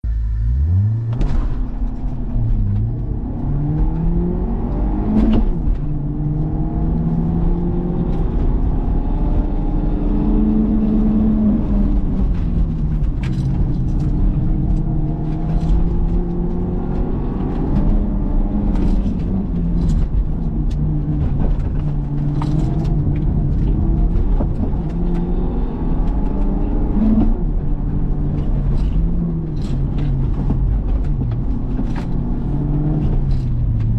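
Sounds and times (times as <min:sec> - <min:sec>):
car engine revving: 0:00.0 - 0:33.9
low rumble: 0:00.0 - 0:33.9.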